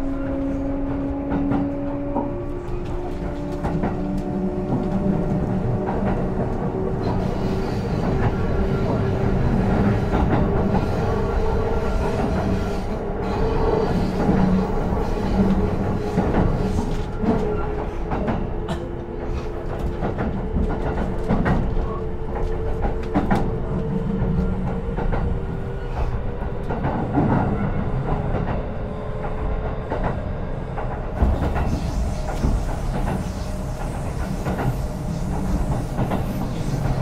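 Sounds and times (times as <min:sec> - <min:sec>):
electric train rumbling: 0:00.0 - 0:37.0.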